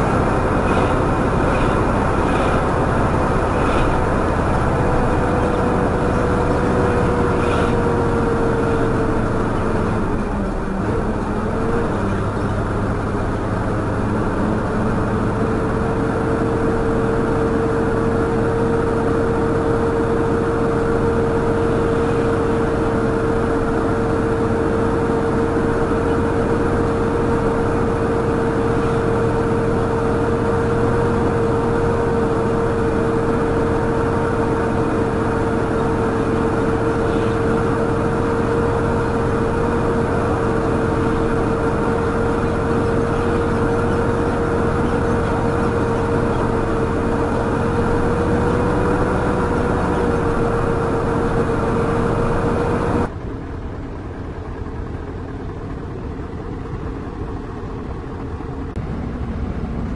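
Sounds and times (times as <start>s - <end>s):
high drivetrain whine: 0.0s - 59.9s
truck engine rumble: 0.0s - 59.9s.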